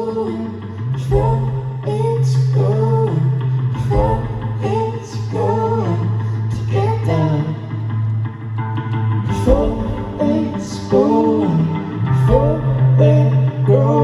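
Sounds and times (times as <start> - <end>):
wordless singing: 0.0 - 8.0, 9.3 - 14.0
plucked guitar: 0.0 - 14.0
steady bass line: 0.0 - 14.0.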